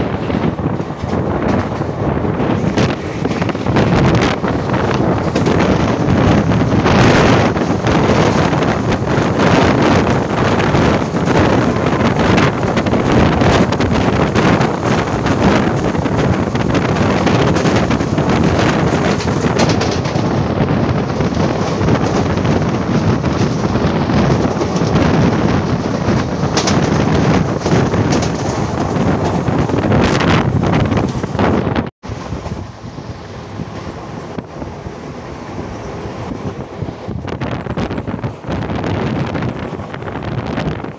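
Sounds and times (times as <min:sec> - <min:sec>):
train coaches running on track: 0:00.0 - 0:40.9
wind buffeting microphone: 0:00.0 - 0:40.9.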